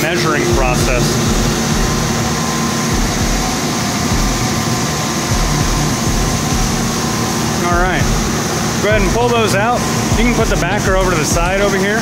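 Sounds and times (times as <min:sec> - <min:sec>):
constant rushing noise: 0:00.0 - 0:12.0
router spindle whine: 0:00.0 - 0:12.0.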